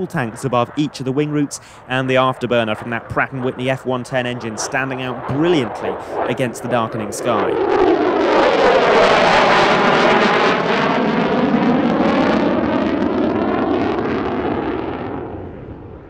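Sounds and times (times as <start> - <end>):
fighter jet roar with afterburner: 0.0 - 16.0.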